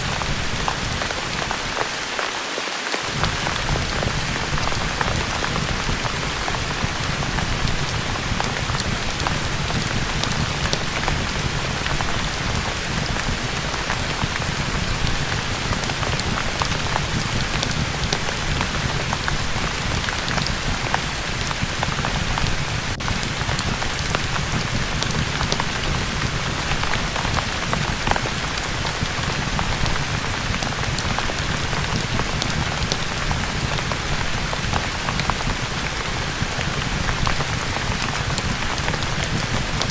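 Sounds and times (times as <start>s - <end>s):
steady rain patter: 0.0s - 39.9s
fireplace crackles: 3.0s - 39.9s.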